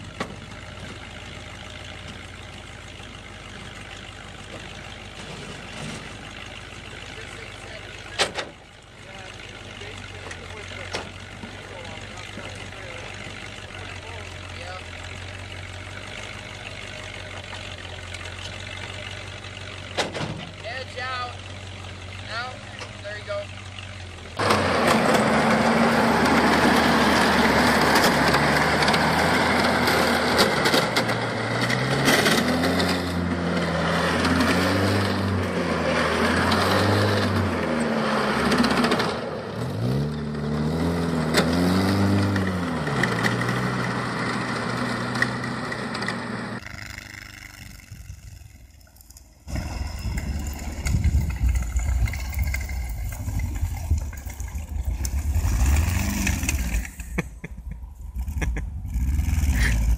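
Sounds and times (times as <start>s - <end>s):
deeper engine rumble: 0.0s - 59.9s
snowcat engine revving: 0.0s - 59.9s.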